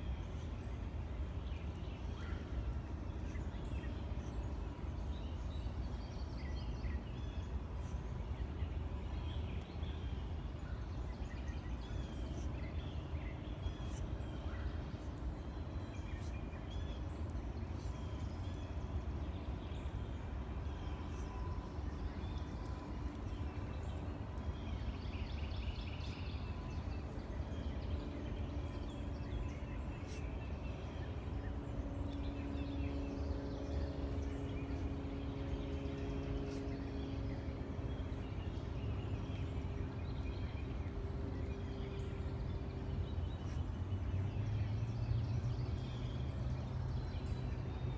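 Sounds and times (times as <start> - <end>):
faint steady hum: 0.0 - 47.9
steady low rumble: 0.0 - 47.9.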